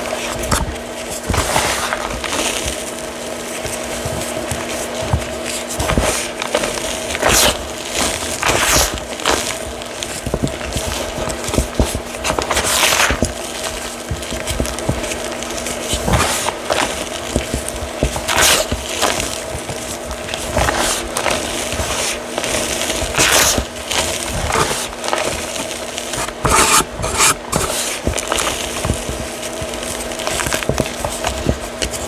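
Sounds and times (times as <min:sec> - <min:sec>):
steady background hum: 0:00.0 - 0:32.0
chalk being crushed: 0:00.2 - 0:32.0.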